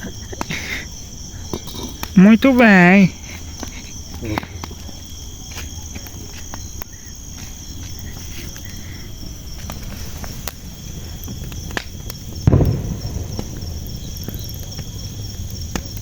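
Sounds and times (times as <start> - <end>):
bonfire wood popping: 0.0 - 16.0
crickets trilling: 0.0 - 16.0.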